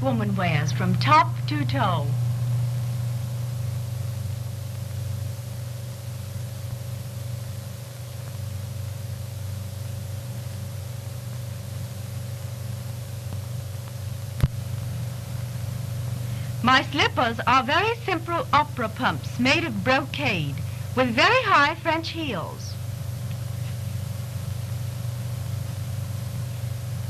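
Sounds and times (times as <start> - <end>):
film soundtrack hiss and hum: 0.0 - 27.0.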